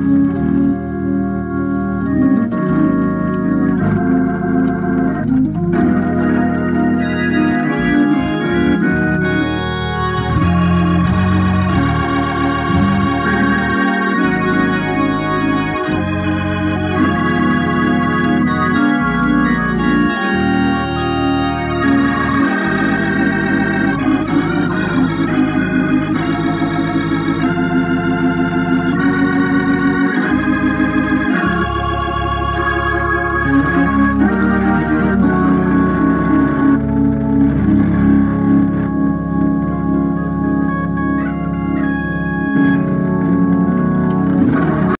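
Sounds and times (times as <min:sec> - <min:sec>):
organ chords through rotating speaker: 0:00.0 - 0:44.9.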